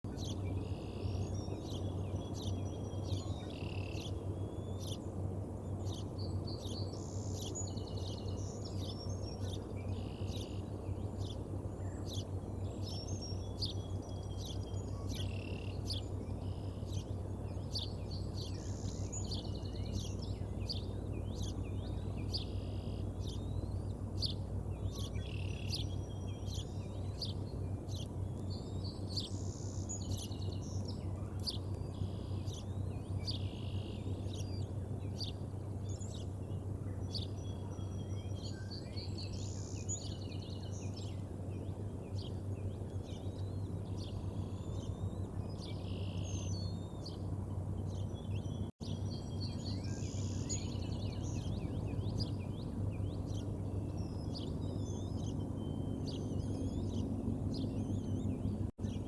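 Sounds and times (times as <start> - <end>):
birds singing trilled phrases: 0.0 - 59.0
steady low hum: 0.1 - 59.0.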